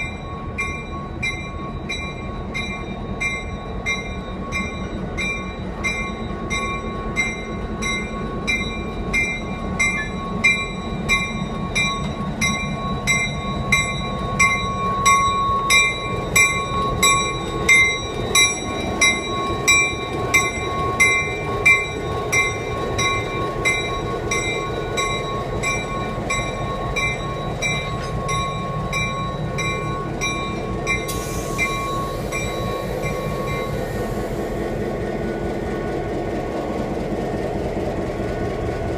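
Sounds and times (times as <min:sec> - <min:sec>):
bell ringing steadily: 0:00.0 - 0:33.9
diesel locomotive engine running: 0:00.0 - 0:38.9.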